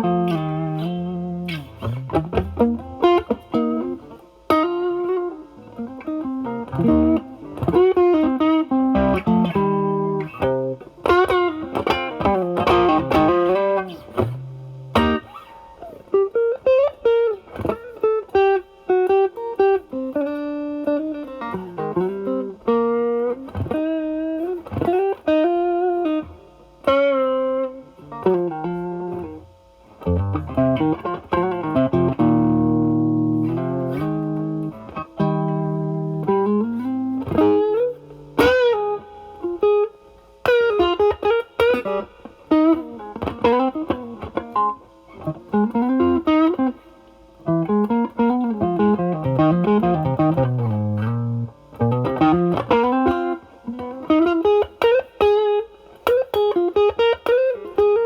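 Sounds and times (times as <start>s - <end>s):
overdriven electric guitar lead: 0.0s - 58.0s.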